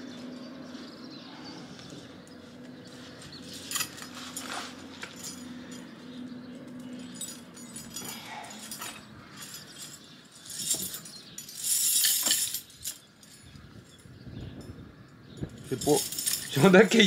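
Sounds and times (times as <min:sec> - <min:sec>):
metal chain clinking: 0:00.2 - 0:17.0.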